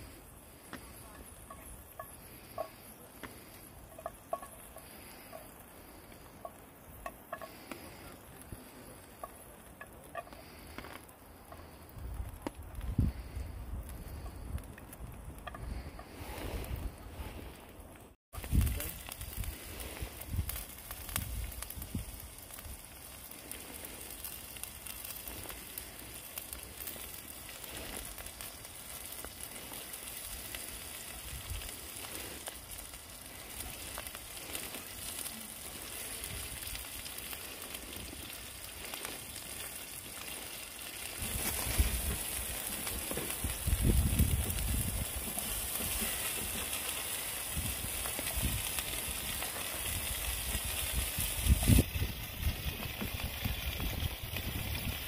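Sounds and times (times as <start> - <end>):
onions sizzling in a pan: 0.0 - 17.5, 18.4 - 55.0.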